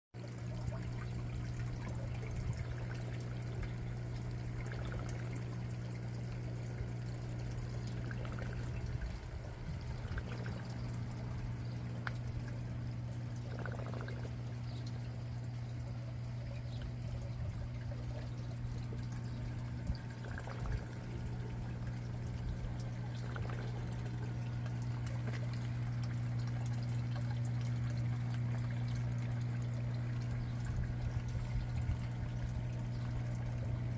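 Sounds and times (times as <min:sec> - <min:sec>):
low hum: 0:00.2 - 0:33.9
water pouring and trickling: 0:00.2 - 0:33.9.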